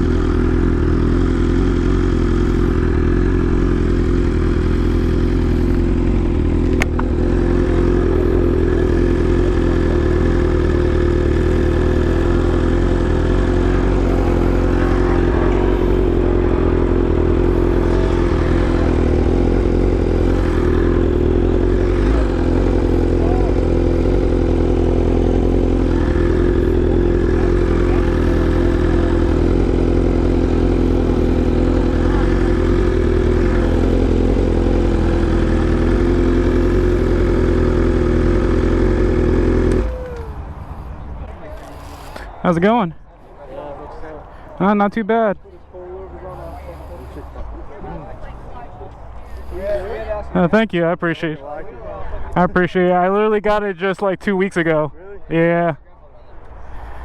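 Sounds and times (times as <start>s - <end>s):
motorcycle engine idling: 0.0s - 44.7s, 45.4s - 50.7s.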